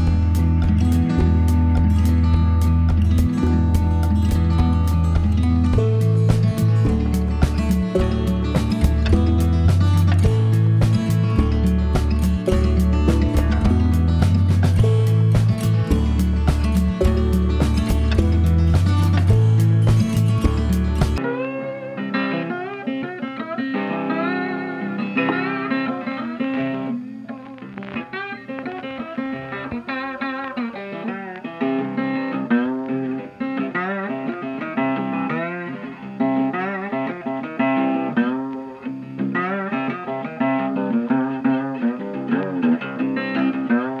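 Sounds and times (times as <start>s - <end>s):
plucked guitar melody: 0.0s - 44.0s.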